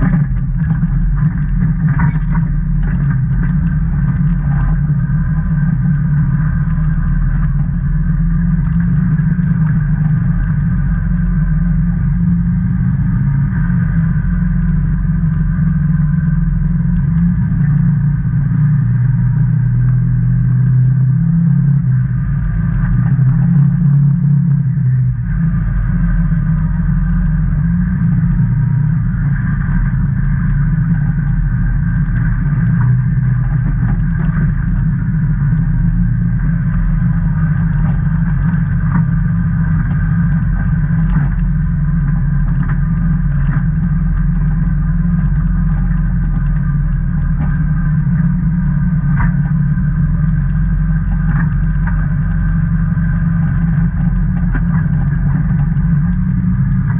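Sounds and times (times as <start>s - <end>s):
engine running steadily: 0.0s - 56.9s
rattles and clicks from ride: 0.0s - 56.9s.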